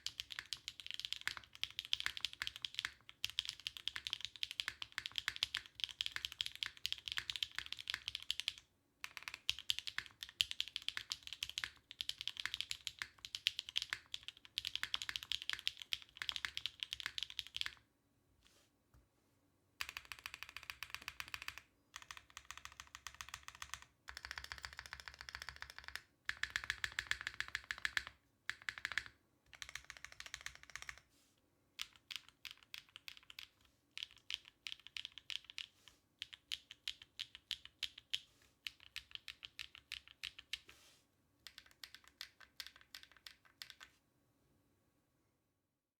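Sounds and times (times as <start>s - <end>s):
mechanical keyboard typing: 0.0s - 17.8s, 19.8s - 31.0s, 31.8s - 40.6s, 41.4s - 43.9s.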